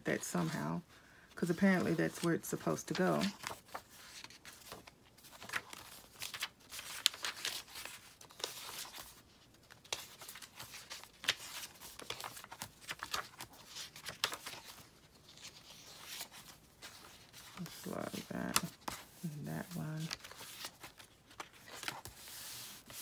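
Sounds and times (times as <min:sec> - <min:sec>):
stiff paper pages crinkling: 0:01.4 - 0:23.0.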